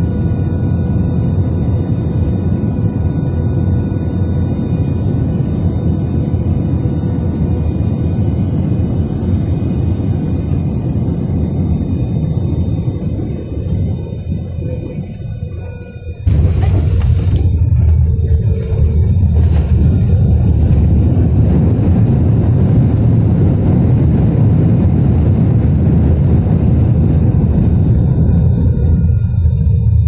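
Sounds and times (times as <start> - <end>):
jet airliner rumbling roar: 0.0 - 30.0.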